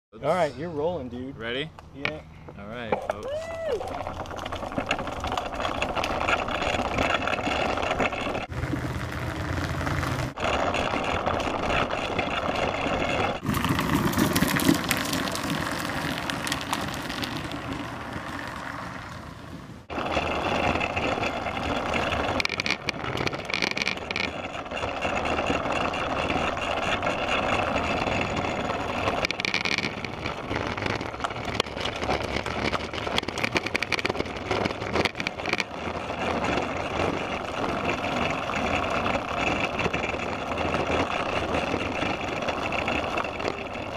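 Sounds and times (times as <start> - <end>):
trike wheels rolling over bricks: 0.9 - 43.9.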